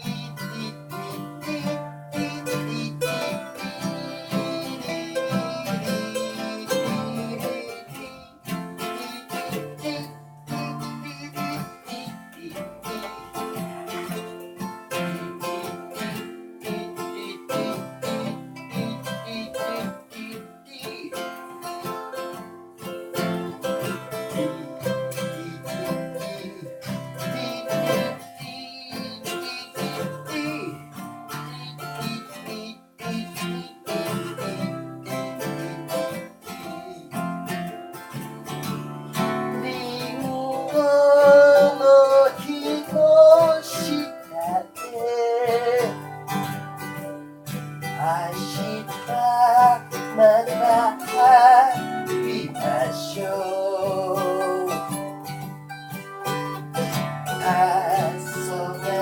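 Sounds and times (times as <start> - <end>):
plucked guitar melody: 0.0 - 59.0.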